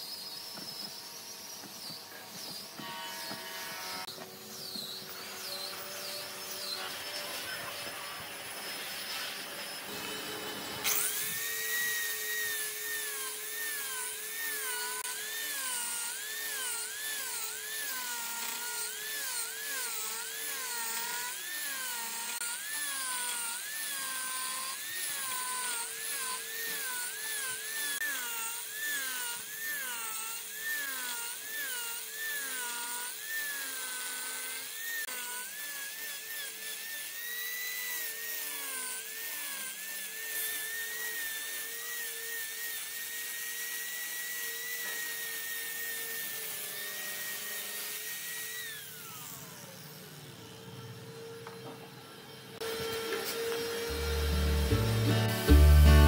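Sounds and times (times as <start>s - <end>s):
power tool whine wobbling: 0.0s - 56.0s.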